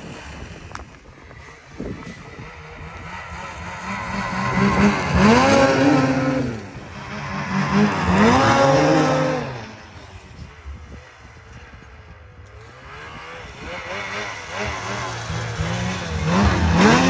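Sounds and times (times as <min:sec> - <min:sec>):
snowmobile engine revving: 0:01.1 - 0:17.0.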